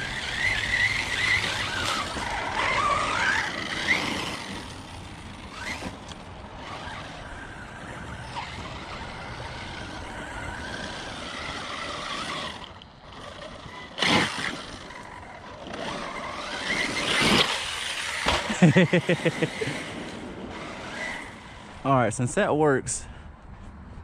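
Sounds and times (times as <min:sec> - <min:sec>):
electric motor whining: 0:00.0 - 0:21.8.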